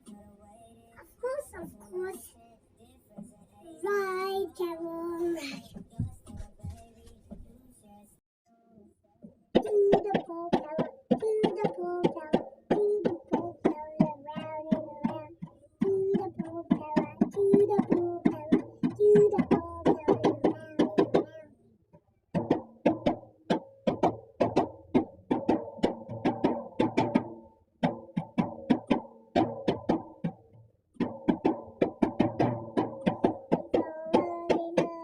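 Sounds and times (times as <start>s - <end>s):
percussion: 3.2s - 7.6s, 9.2s - 35.0s.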